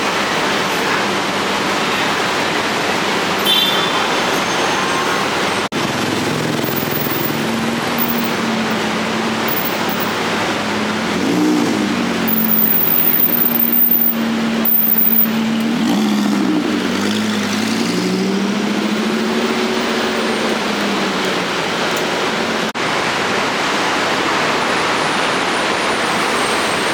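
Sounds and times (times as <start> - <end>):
car engines passing: 0.0 - 26.9
traffic noise: 0.0 - 26.9.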